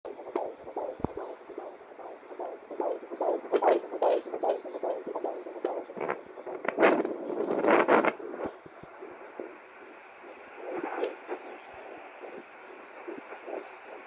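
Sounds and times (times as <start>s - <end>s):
heartbeat thumps: 0.1s - 14.0s.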